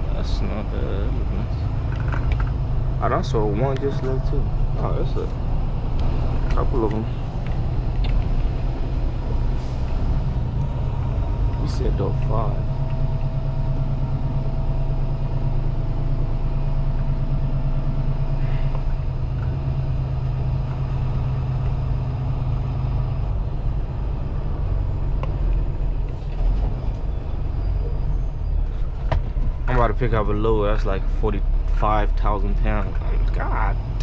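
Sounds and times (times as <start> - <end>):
diesel truck engine rumbling: 0.0 - 34.0.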